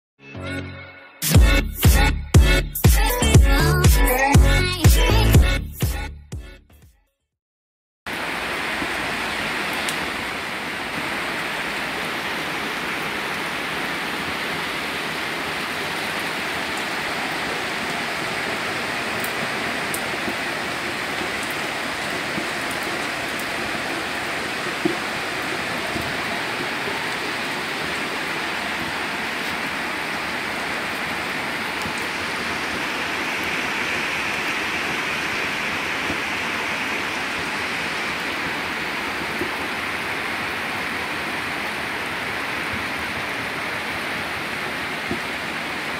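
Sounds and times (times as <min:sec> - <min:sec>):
rain falling: 0:08.1 - 0:45.9.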